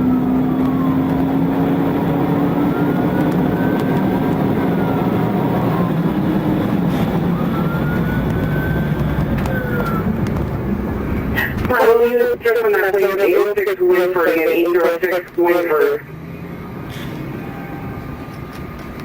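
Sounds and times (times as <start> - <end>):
police siren wailing: 0.0 - 19.0
vehicle engine and road noise: 0.0 - 19.0.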